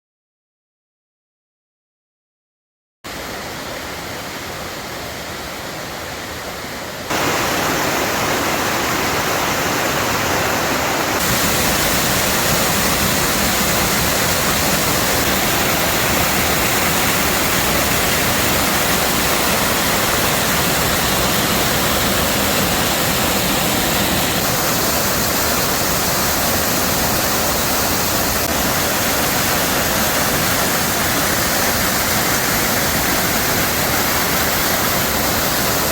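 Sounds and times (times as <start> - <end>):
waterfall rushing: 3.1 - 35.9.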